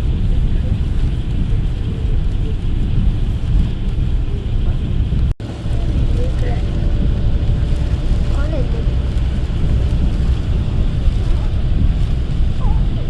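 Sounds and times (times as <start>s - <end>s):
coach engine and tyre rumble: 0.0s - 13.0s.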